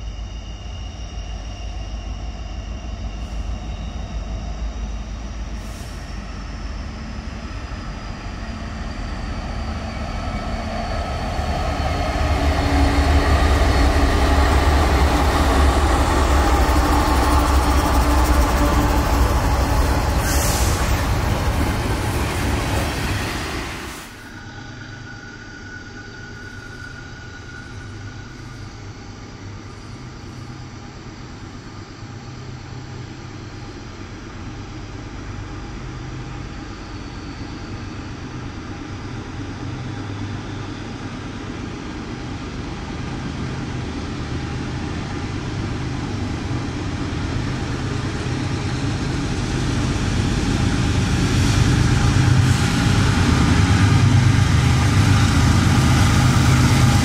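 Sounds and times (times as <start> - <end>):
diesel locomotive engine rumble: 0.0 - 57.0.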